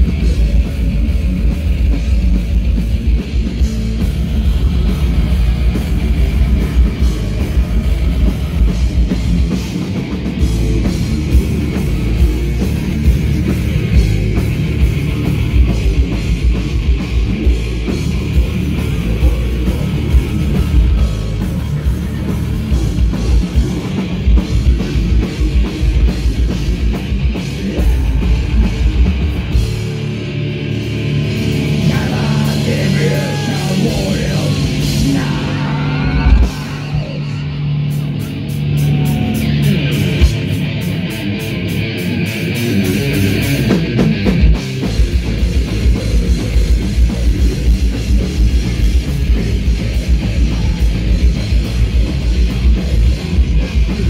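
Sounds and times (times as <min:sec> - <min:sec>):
electric guitar bending notes: 0:00.0 - 0:54.0
heavy metal band playing live: 0:00.0 - 0:54.0.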